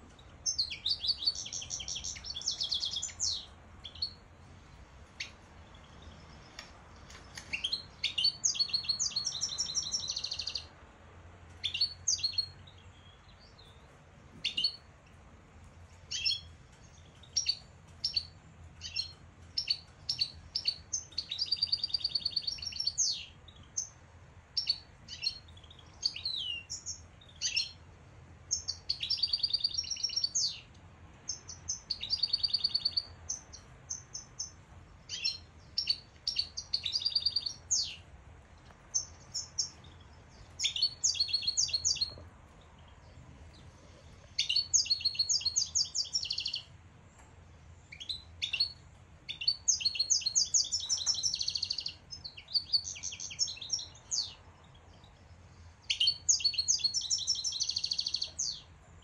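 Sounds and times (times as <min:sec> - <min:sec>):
finches chirping and trilling: 0:00.1 - 0:04.2, 0:05.1 - 0:10.7, 0:11.6 - 0:14.8, 0:16.1 - 0:24.0, 0:24.6 - 0:27.8, 0:28.5 - 0:30.7, 0:31.3 - 0:38.0, 0:38.8 - 0:46.7, 0:47.9 - 0:58.7.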